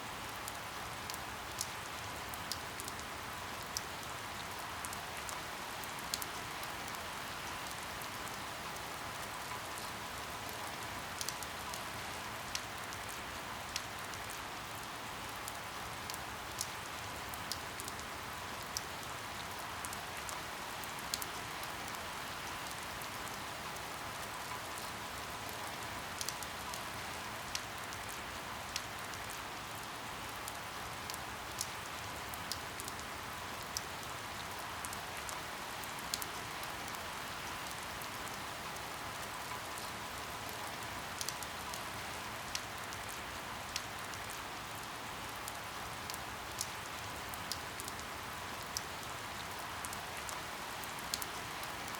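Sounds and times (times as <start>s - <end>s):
steady rainfall: 0.0s - 51.9s.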